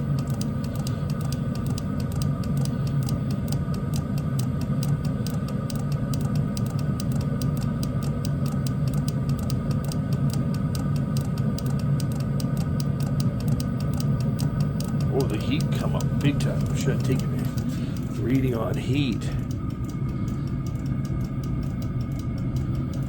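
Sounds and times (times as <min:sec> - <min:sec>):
fuel pump ticking: 0:00.0 - 0:23.0
heater fan hum: 0:00.0 - 0:23.0.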